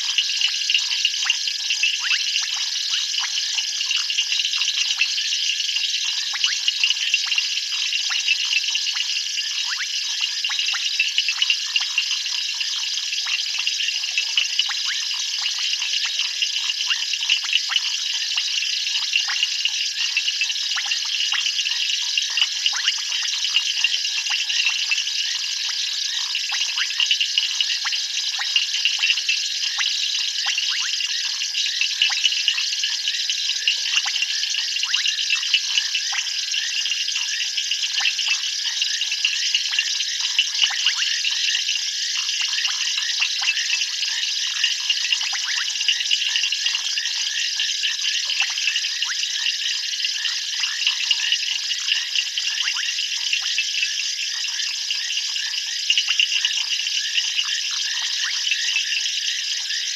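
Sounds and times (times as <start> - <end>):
insects chirping and trilling: 0.0 - 59.9.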